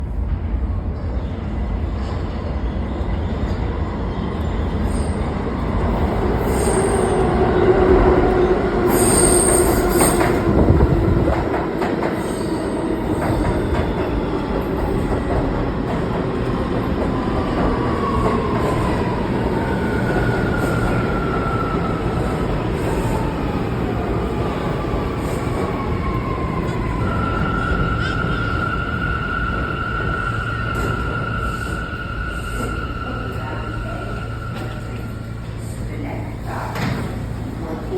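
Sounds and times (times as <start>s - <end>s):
subway train rumble: 0.0s - 37.9s.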